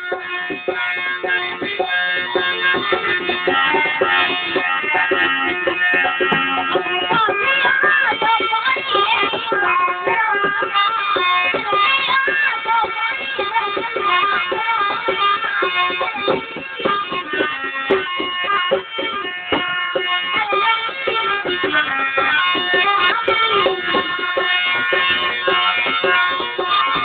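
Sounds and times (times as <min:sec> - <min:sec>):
hand drum strokes: 0:00.0 - 0:27.0
sliding ornamented melody: 0:00.0 - 0:27.0.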